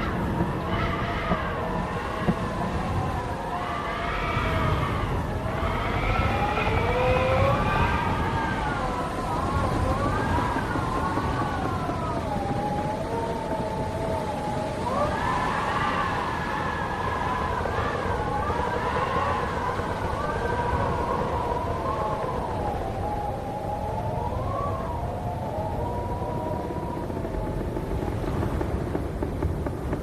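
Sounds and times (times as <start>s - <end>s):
low rumble of gusts: 0.0s - 30.0s
wind howling and whistling: 0.0s - 30.0s.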